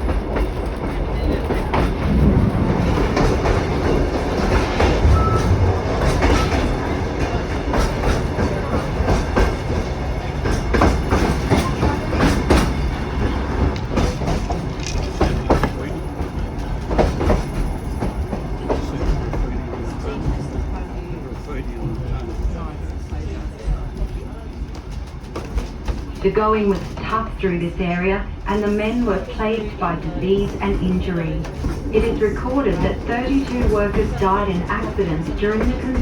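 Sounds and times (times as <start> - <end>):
train rumbling along track: 0.0 - 36.0.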